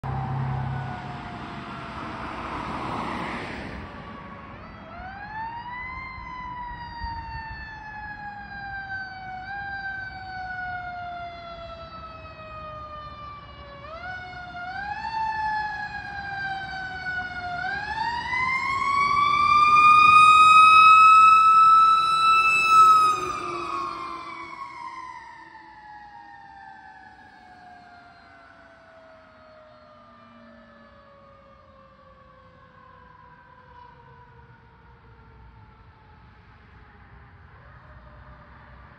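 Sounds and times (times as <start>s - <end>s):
fire truck siren wailing: 0.0s - 38.9s.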